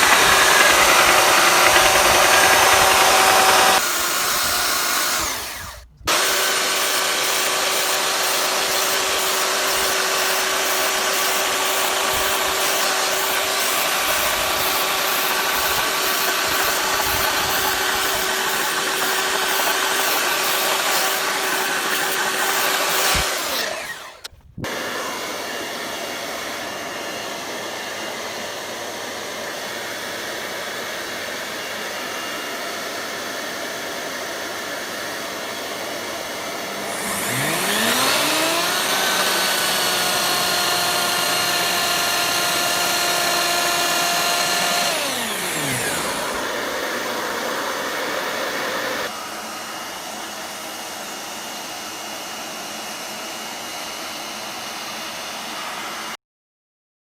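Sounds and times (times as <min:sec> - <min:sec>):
power tool whining: 0:00.0 - 0:56.1.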